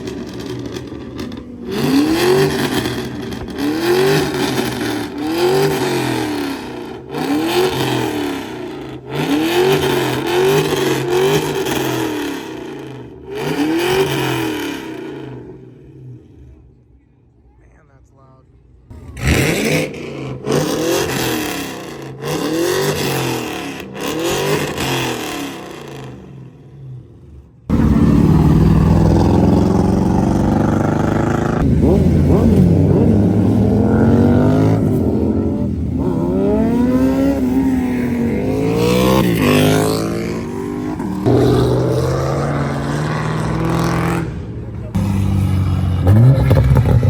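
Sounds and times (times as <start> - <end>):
car engines revving: 0.0 - 17.0, 18.5 - 47.0.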